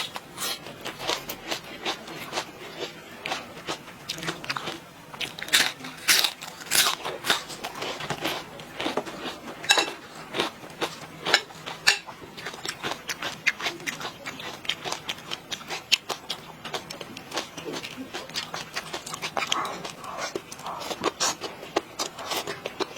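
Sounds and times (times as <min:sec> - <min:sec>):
person chewing crunchy food: 0:00.0 - 0:22.9.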